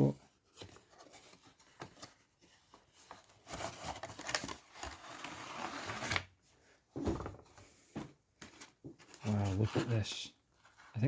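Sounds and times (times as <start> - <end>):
cardboard packaging rustling: 0.2 - 7.6, 8.4 - 11.0.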